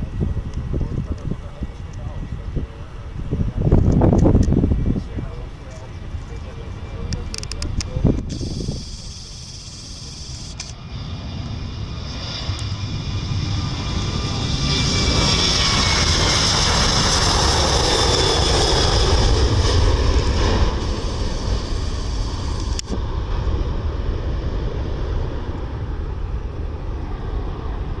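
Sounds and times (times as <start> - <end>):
high fan whine: 0.0 - 28.0
jet engines roaring: 0.0 - 28.0.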